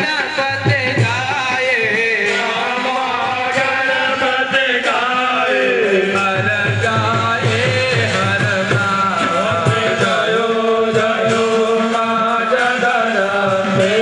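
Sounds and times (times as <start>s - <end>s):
devotional chant-like singing: 0.0s - 14.0s
drum strokes: 0.0s - 14.0s.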